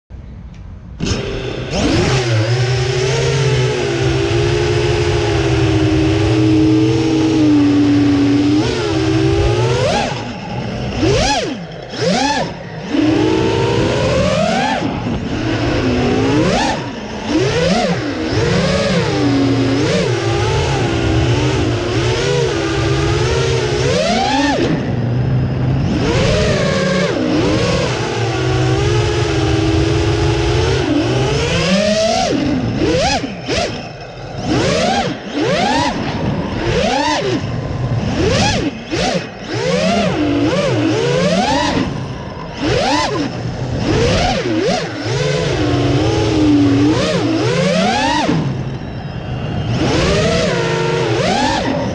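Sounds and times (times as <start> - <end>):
quadcopter motors buzzing: 1.0 - 51.9.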